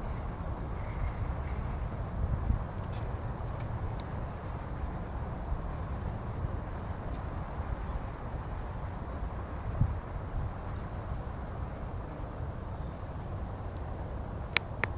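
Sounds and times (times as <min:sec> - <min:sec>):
wind rumble on microphone: 0:00.0 - 0:14.9.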